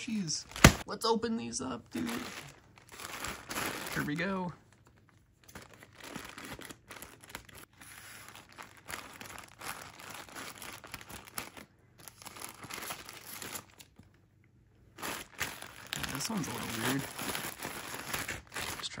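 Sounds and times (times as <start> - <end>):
plastic bag crinkling: 2.0 - 14.0, 15.0 - 19.0.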